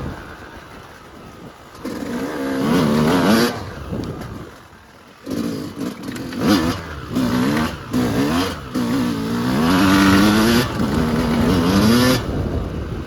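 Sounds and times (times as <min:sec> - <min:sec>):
dirt bike engine revving: 0:01.8 - 0:12.7.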